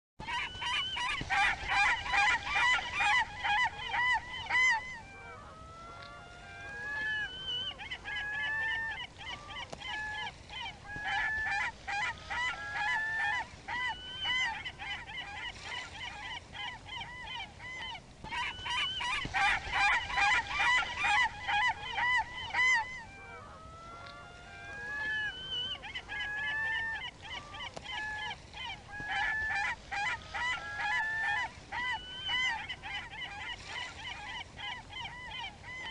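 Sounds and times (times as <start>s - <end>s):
gulls squawking: 0.2s - 35.9s.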